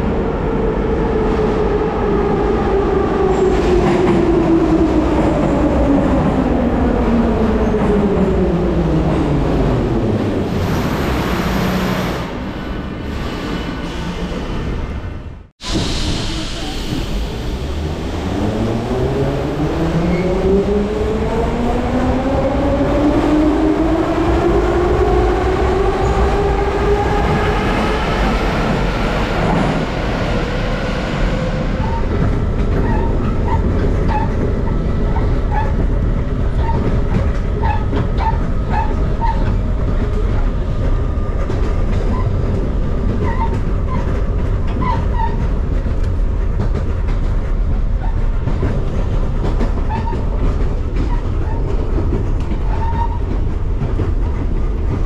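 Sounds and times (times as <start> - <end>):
metro car running: 0.0 - 55.0.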